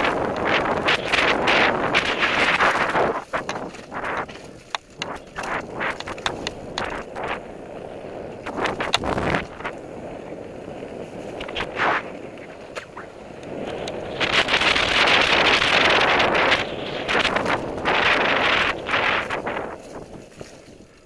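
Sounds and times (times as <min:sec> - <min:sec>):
bike rattling over bumps: 0:00.0 - 0:21.0
bike tyres on dirt: 0:00.0 - 0:21.0
wind on microphone: 0:00.0 - 0:21.0.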